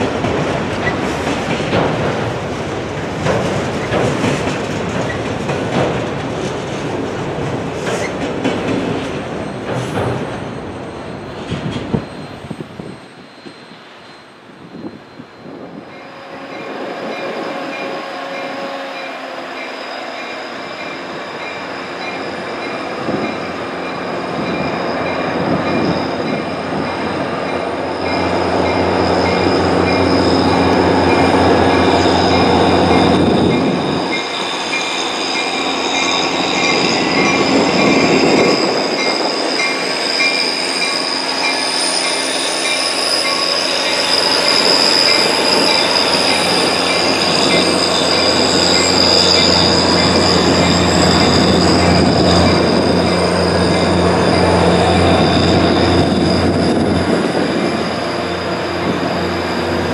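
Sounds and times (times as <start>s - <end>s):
train rumbling: 0.0s - 59.9s
train wheels squealing on rails: 0.0s - 59.9s.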